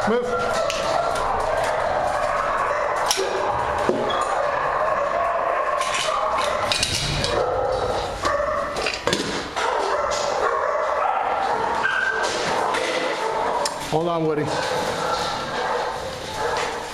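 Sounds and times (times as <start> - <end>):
many dogs barking: 0.0 - 16.9.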